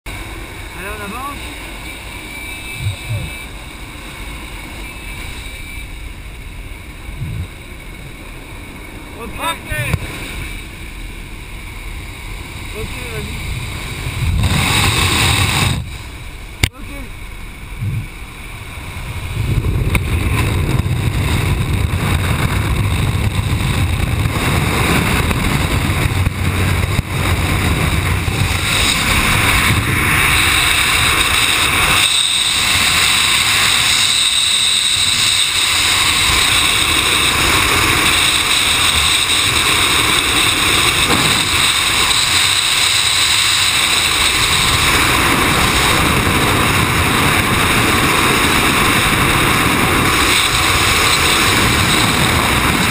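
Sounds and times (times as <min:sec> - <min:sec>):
freefall wind rushing: 0:00.1 - 0:52.9.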